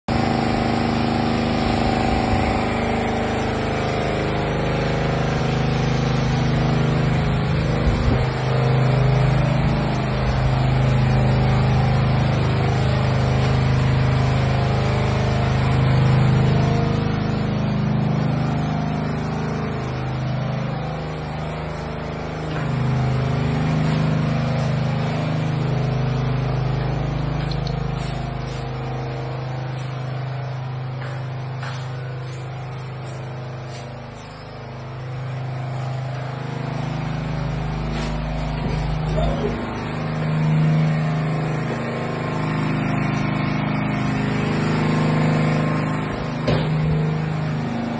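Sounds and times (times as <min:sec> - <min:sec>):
engine drone: 0:00.0 - 0:47.9.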